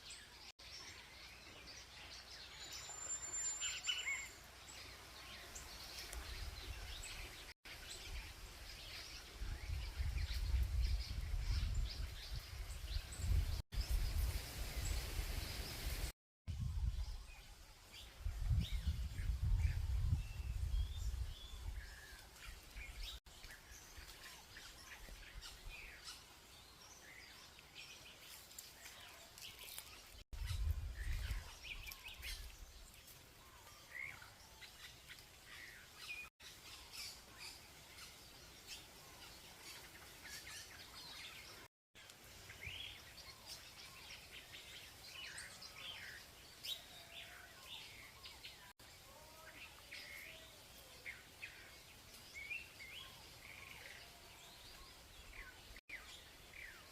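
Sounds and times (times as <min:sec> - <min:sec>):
songbirds chirping and whistling: 0:00.0 - 0:16.0, 0:16.6 - 0:56.9.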